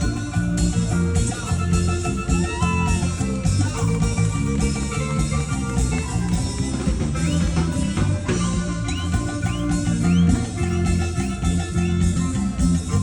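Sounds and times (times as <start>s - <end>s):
instrumental dance music: 0.0s - 13.0s.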